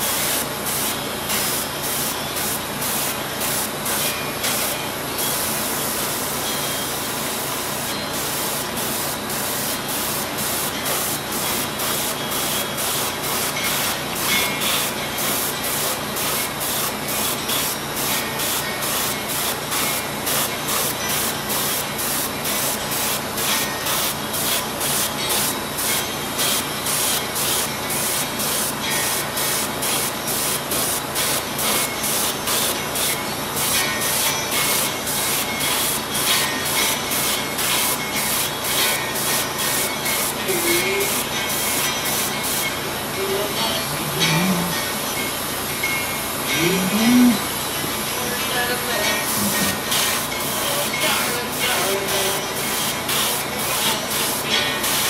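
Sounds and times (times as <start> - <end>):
airbrush spraying paint: 0.0 - 42.9, 48.7 - 55.0.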